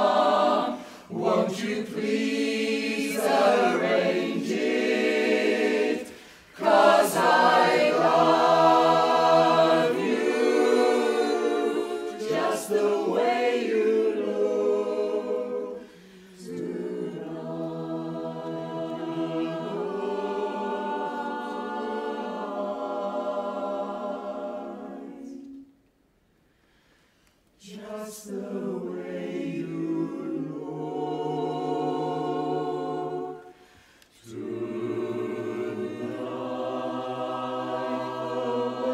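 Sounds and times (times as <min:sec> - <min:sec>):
a cappella chorus singing: 0:00.0 - 0:38.9.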